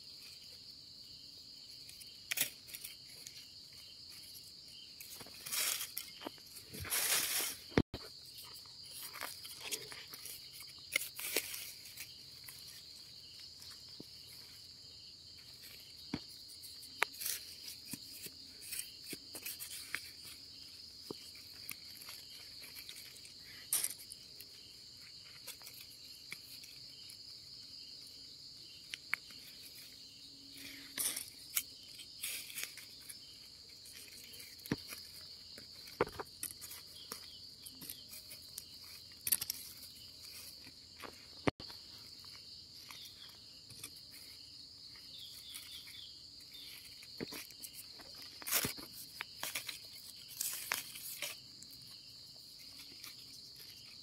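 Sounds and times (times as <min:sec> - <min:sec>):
insects trilling: 0:00.0 - 0:54.0
dry leaves rustling: 0:02.3 - 0:27.5, 0:29.3 - 0:54.0.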